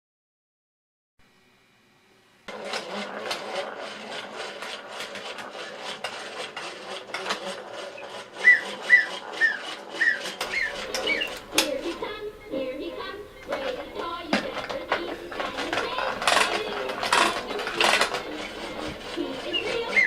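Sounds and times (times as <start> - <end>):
clockwork toy gears clattering: 2.5 - 20.0.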